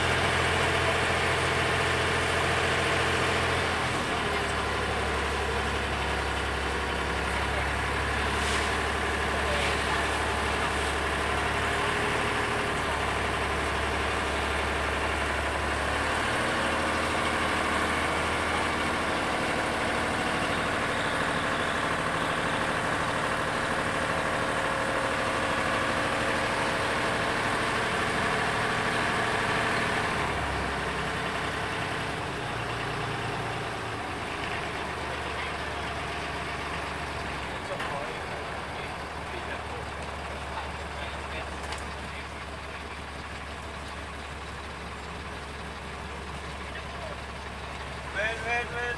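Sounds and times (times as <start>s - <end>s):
boat engine humming: 0.0s - 48.9s.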